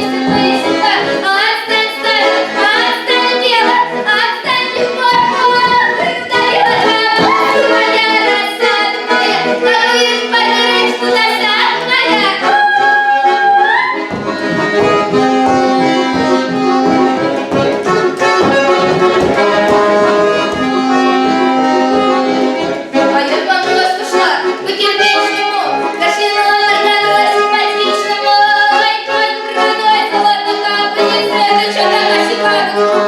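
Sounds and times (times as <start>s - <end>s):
folk accordion music: 0.0s - 33.0s.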